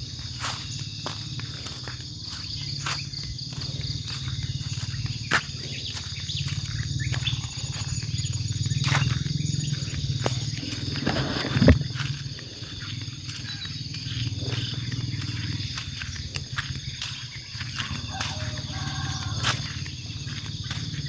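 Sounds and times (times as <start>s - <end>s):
footsteps on leaf litter: 0.0s - 21.0s
high insect drone: 0.0s - 21.0s.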